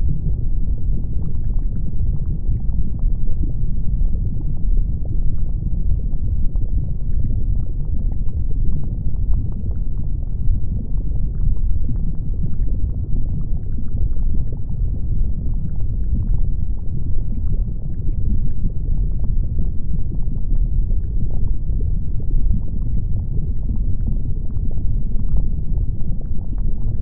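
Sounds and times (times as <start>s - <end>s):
faint crackles and pops: 0.0s - 27.0s
volcano deep rumble: 0.0s - 27.0s.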